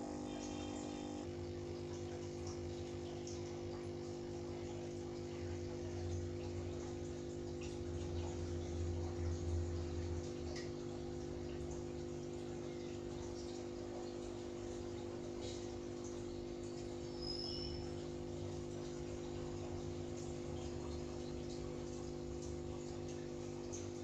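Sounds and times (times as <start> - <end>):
electrical hum of aquarium equipment: 0.0 - 24.0
water trickling and dripping: 0.0 - 24.0.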